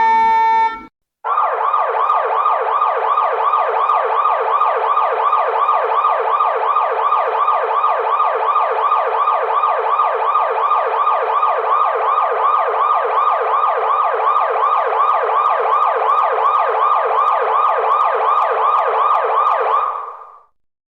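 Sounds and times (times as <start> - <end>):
police siren yelping: 0.0 - 20.5.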